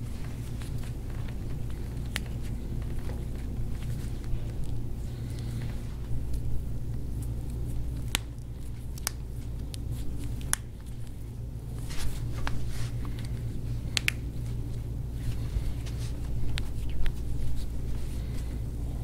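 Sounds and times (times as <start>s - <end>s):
steady low hum: 0.0s - 19.0s
hands rubbing skin: 0.1s - 6.4s, 7.0s - 19.0s.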